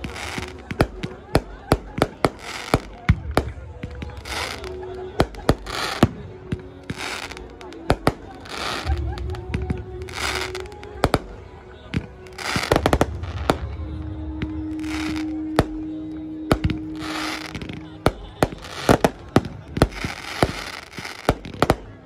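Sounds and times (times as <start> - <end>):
fireworks hissing: 0.0 - 21.8
fireworks bangs and cracks: 0.0 - 22.0
steady low tone: 2.9 - 20.6.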